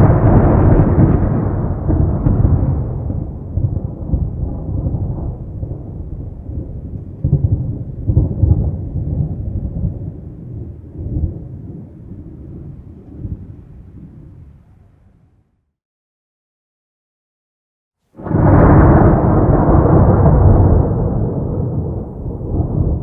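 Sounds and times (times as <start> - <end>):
thunder rumbling: 0.0 - 14.9, 18.2 - 23.0.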